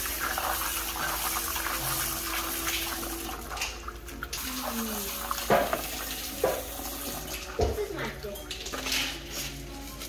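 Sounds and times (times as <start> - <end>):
tap water splashing into bowl: 0.9 - 9.2.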